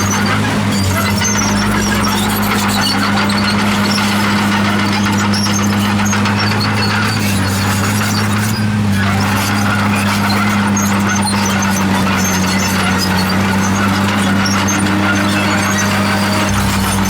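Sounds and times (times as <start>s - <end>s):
bulldozer diesel engine running: 0.0s - 17.0s
steel tracks squeaking and clinking: 0.0s - 17.0s.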